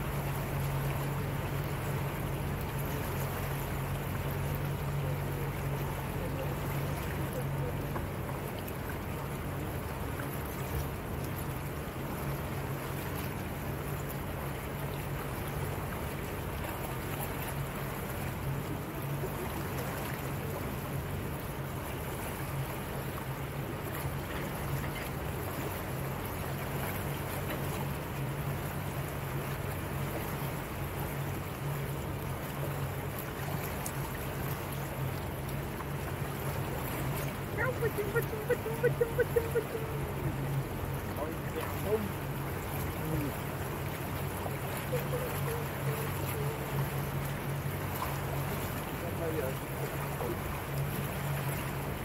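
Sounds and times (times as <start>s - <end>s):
motorboat engine running: 0.0s - 52.0s
water rushing past hull: 0.0s - 52.0s.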